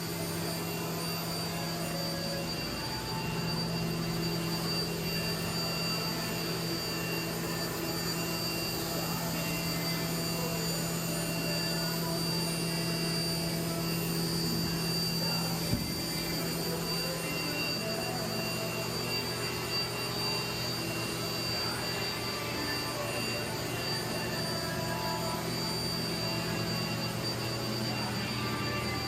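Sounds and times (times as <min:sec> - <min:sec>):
high whine: 0:00.0 - 0:29.0
machinery low hum: 0:00.0 - 0:29.0.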